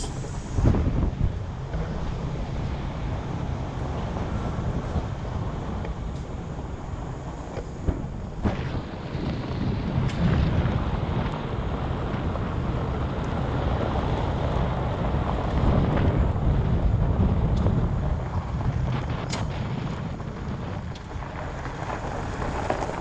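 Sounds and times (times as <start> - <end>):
tyres rumbling on gravel: 0.0 - 23.0
wind buffeting microphone: 0.0 - 23.0.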